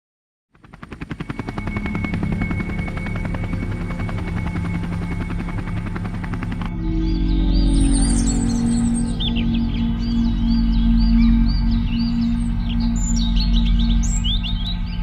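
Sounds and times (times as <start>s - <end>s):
helicopter rotor chopping: 0.6s - 14.9s
turbine whine: 0.6s - 15.0s.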